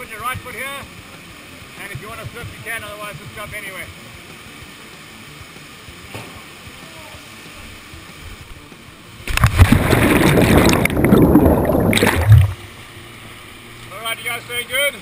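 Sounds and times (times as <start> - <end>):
churning water rush: 0.0 - 15.0
stream running: 0.0 - 15.0.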